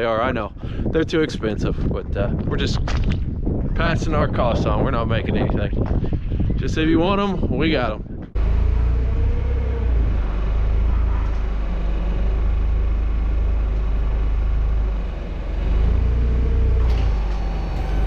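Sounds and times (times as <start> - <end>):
vehicle engine low rumble: 0.0 - 18.0.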